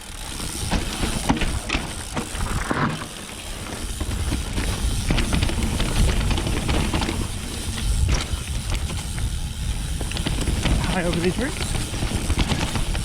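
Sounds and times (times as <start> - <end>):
bike rattling and knocking: 0.0 - 13.0
bike tyres rolling on dirt: 0.0 - 13.0
wind rumbling on microphone: 0.5 - 3.1, 3.7 - 13.0.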